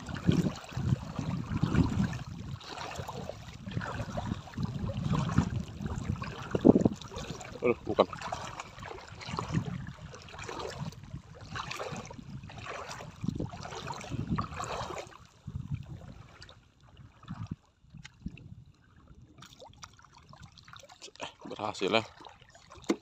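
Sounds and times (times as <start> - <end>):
wind noise: 0.0 - 19.4
sea water sloshing and splashing: 0.0 - 23.0.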